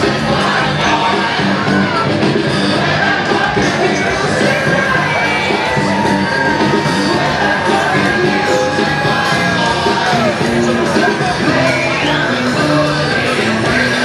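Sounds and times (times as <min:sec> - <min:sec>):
loud music with singing: 0:00.0 - 0:14.0
voices yelling and shouting: 0:00.0 - 0:14.0.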